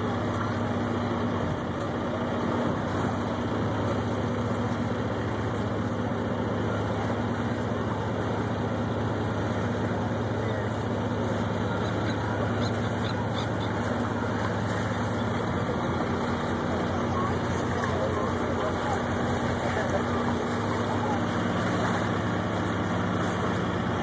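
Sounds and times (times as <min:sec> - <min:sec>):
boat engine humming: 0:00.0 - 0:24.0
rushing water: 0:00.0 - 0:24.0.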